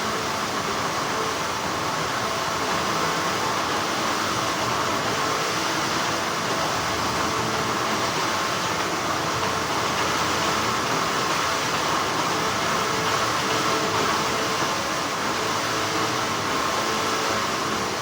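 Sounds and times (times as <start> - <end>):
factory machinery humming: 0.0 - 18.0.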